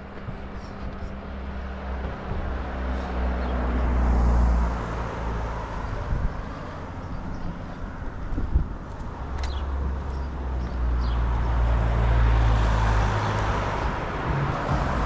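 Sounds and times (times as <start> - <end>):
outdoor background noise: 0.0 - 15.0
vehicle passing rumble: 0.0 - 15.0.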